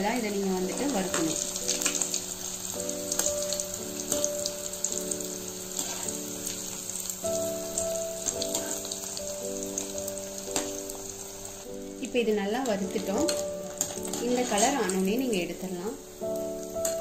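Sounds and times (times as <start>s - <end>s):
oil sizzling and crackling: 0.0s - 17.0s
soft background music: 0.0s - 17.0s.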